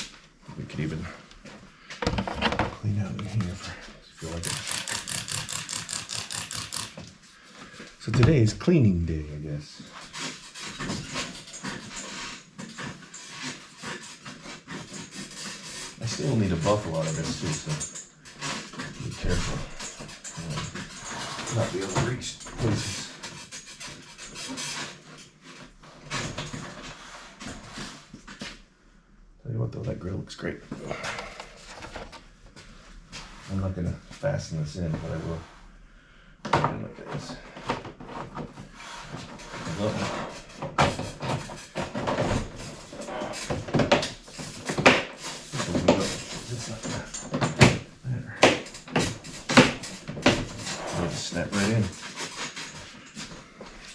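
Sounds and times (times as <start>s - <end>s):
plastic parts rustling and scraping: 0.0s - 8.4s, 9.8s - 28.6s, 31.0s - 33.5s, 37.0s - 53.9s.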